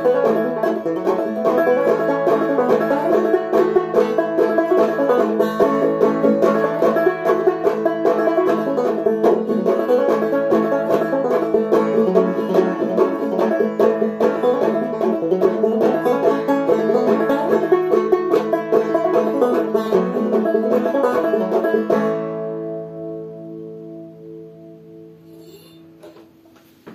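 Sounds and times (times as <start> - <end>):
banjo plucked melody: 0.0 - 26.1.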